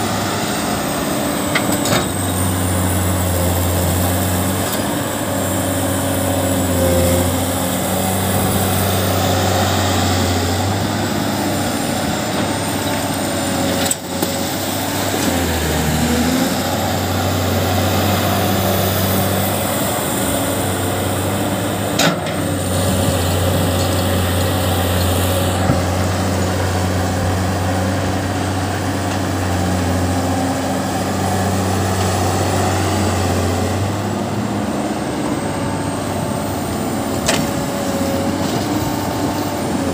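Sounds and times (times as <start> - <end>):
heavy diesel engines droning: 0.0 - 39.9.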